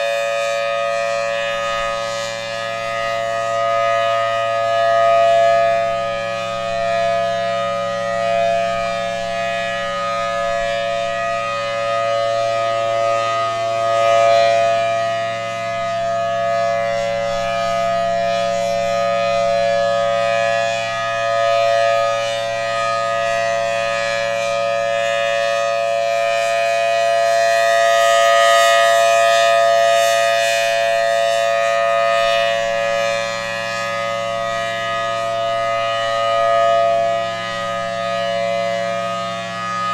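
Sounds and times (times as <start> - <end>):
civil defense siren steady tone: 0.0 - 39.9.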